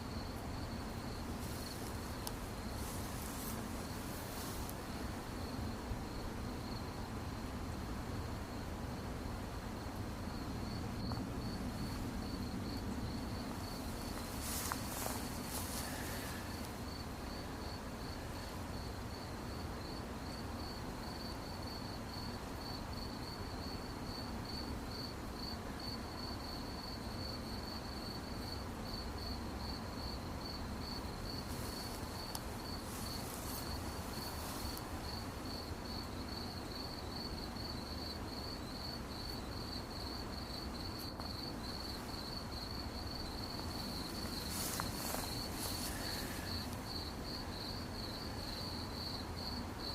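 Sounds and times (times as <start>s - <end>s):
crickets chirping: 0.0s - 49.9s
low background hiss: 0.0s - 49.9s.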